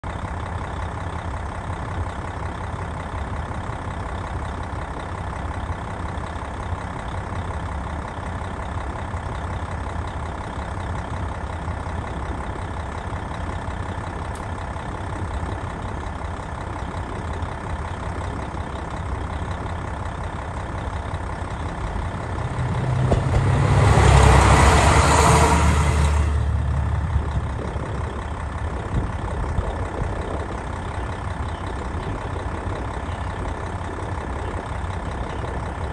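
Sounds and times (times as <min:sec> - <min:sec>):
diesel railcar passing: 0:00.1 - 0:35.9
steady low rumble: 0:00.1 - 0:35.9.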